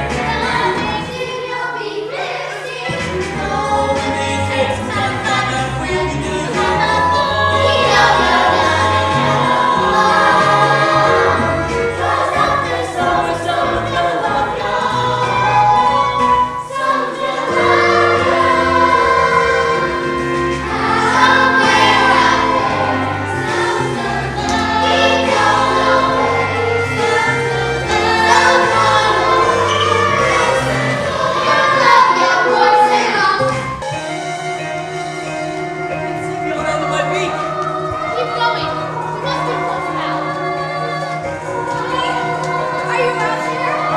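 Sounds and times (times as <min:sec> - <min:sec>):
instrumental accompaniment with bass: 0:00.0 - 0:01.3, 0:02.9 - 0:43.9
voices singing in chorus: 0:00.0 - 0:43.9.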